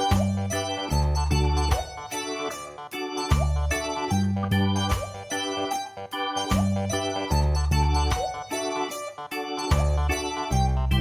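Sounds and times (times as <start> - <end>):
background music melody: 0.0 - 11.0.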